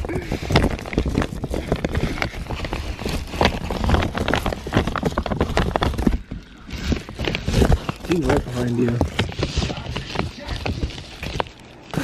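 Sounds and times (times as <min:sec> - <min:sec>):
ferrets scrabbling knocks and scratches: 0:00.0 - 0:12.0.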